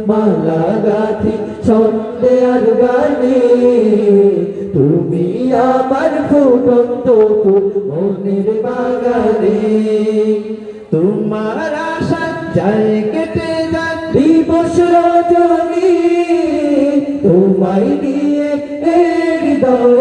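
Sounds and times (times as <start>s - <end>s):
men singing together unaccompanied: 0.0s - 20.0s.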